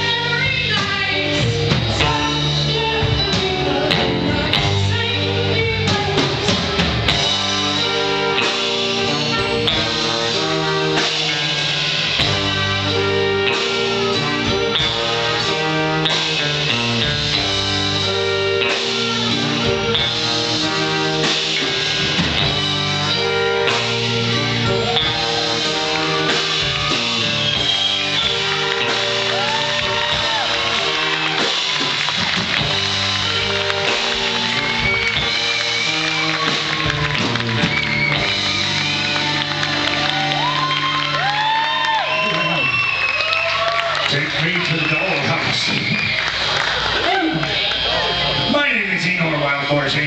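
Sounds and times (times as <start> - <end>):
guitar chords: 0.0 - 41.3
steady drum beat: 0.0 - 47.4.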